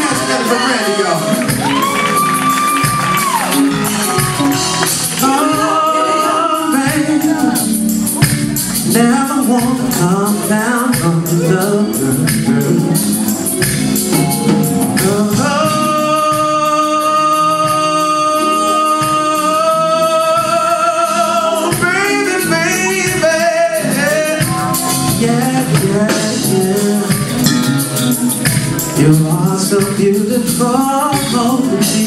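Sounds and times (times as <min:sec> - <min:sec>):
person singing: 0:00.0 - 0:32.0
soul band playing: 0:00.0 - 0:32.0.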